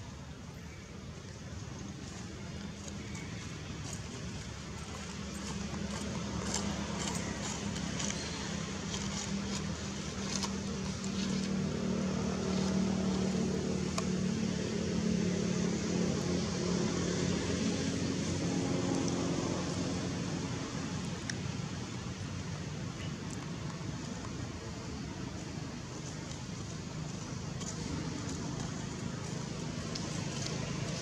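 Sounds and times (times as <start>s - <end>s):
vehicle engine running: 1.9s - 31.0s.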